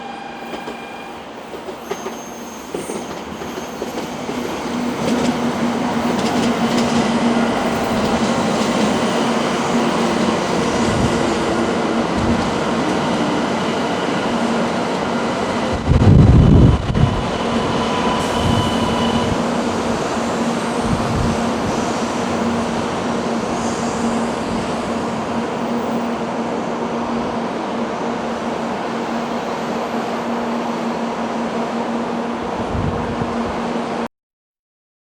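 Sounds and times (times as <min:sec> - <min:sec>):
train arriving on rails: 0:00.0 - 0:34.1.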